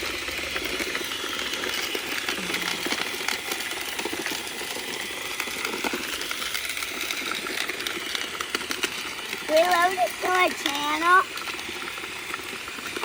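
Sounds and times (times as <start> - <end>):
robot vacuum brushes clattering: 0.0 - 13.0.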